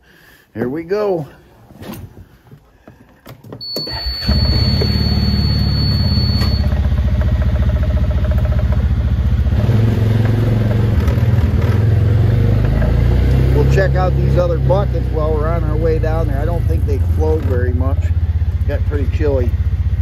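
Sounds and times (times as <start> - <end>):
vehicle engine idling: 3.9 - 20.0.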